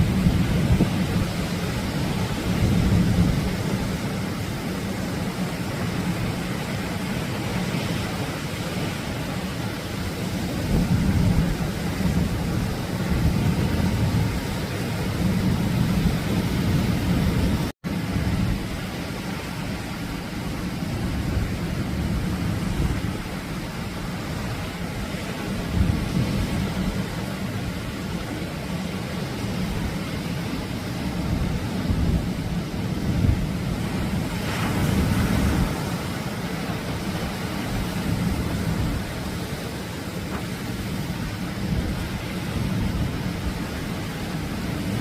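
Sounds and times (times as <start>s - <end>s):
surf washing onto a beach: 0.0s - 45.0s.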